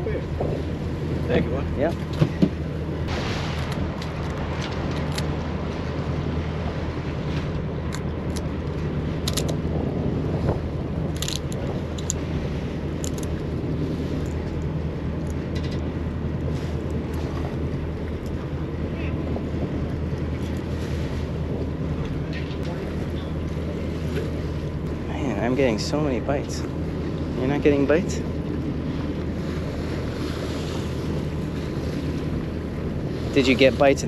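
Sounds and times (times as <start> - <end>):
boat engine hum: 0.0 - 34.0
wind buffeting microphone: 0.0 - 34.0.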